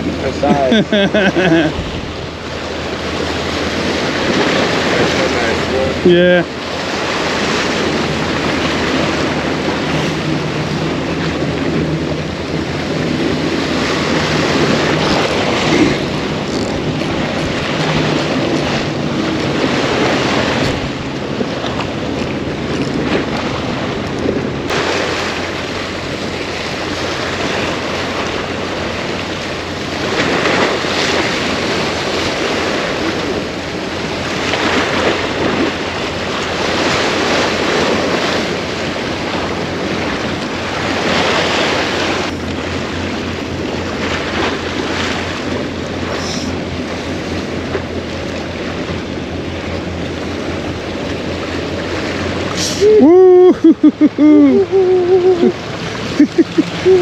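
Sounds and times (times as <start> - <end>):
surf washing ashore: 0.0 - 57.0
wind buffeting microphone: 0.0 - 57.0.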